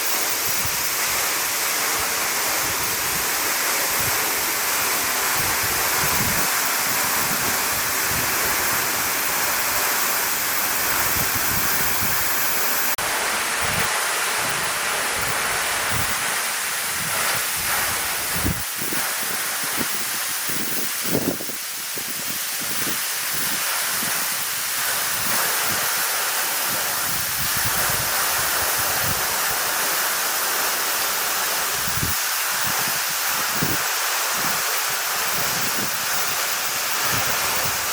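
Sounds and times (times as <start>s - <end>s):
waterfall rushing: 0.0s - 18.6s, 23.2s - 37.9s.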